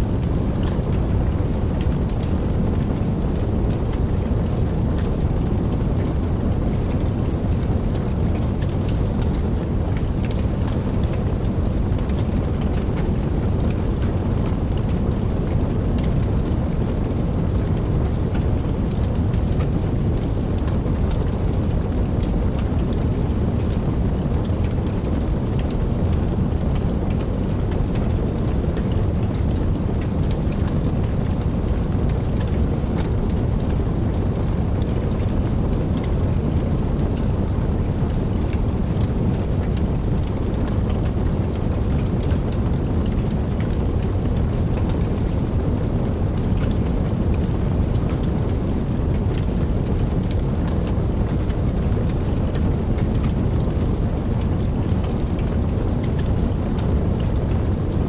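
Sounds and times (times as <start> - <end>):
campfire flame rumbling: 0.0 - 58.0
wood crackling and popping: 0.0 - 58.0.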